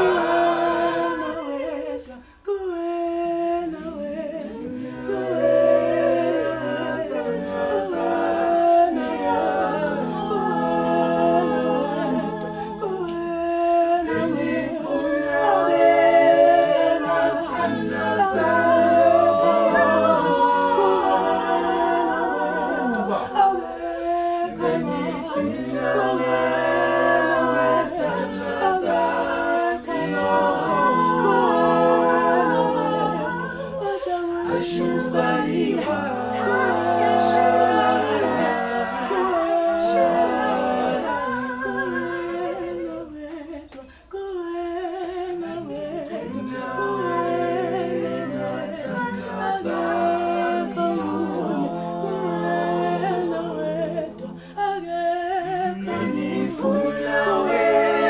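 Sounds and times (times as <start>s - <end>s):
vocal group singing in harmony: 0.0s - 58.0s.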